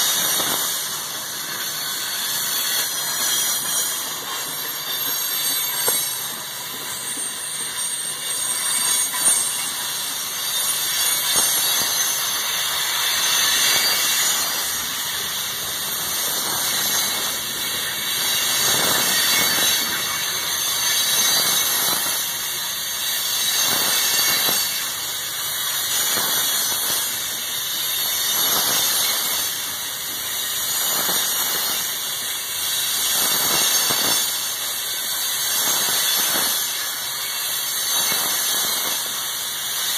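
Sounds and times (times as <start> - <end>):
train wheels squealing on rail: 0.0 - 39.9.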